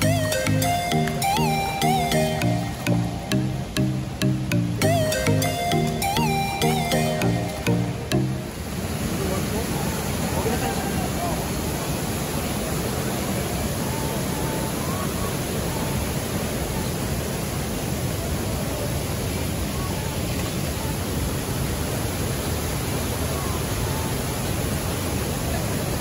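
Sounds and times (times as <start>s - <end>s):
waterfall and rushing river: 0.0s - 26.0s.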